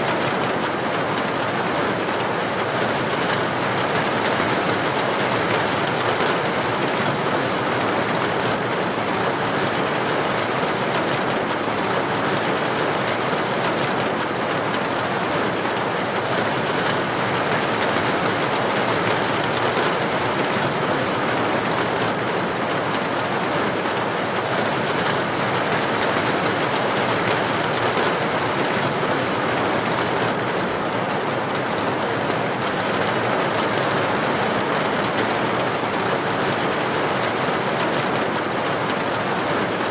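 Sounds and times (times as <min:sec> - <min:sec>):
heavy rain on a street: 0:00.0 - 0:39.9.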